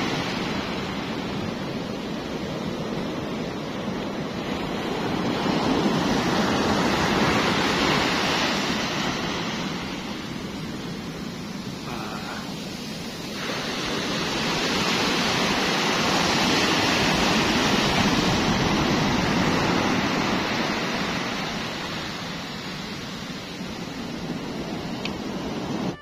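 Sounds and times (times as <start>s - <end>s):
surf rushing: 0.0s - 26.0s.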